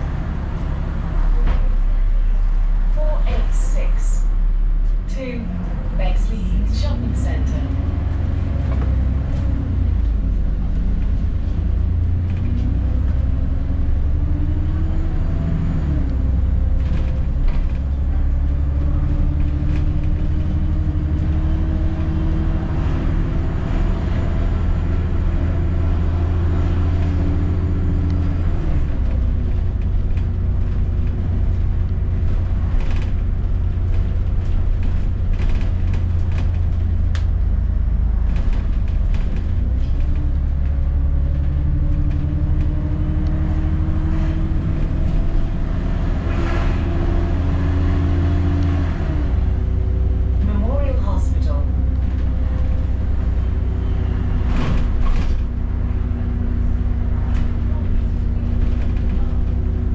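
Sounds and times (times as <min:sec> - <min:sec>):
bus engine rumbling: 0:00.0 - 0:59.9.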